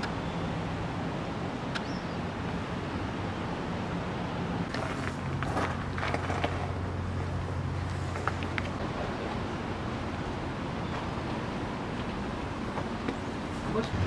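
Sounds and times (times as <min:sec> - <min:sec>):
low outdoor background hum: 0:00.0 - 0:14.0.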